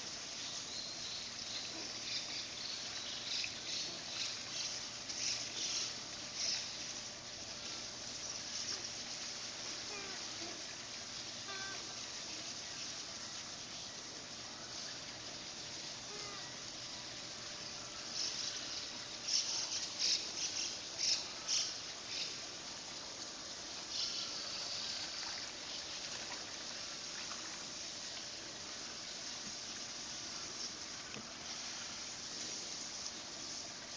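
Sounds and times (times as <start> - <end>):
water hissing from leaking hose: 0.0 - 33.9.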